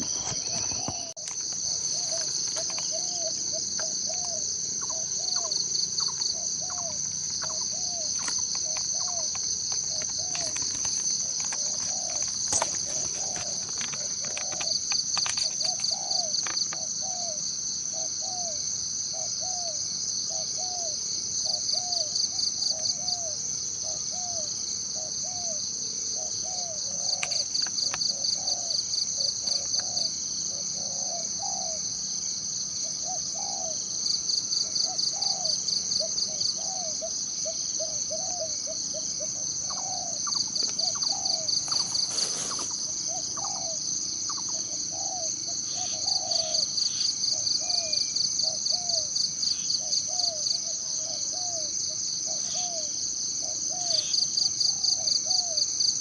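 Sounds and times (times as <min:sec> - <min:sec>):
insect chorus buzzing: 0:00.0 - 0:56.0.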